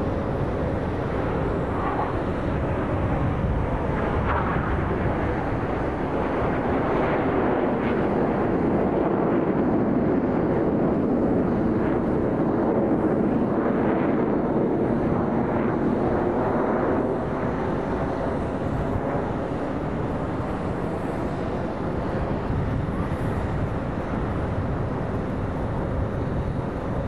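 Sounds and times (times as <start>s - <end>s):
jets passing overhead roar: 0.0s - 27.0s.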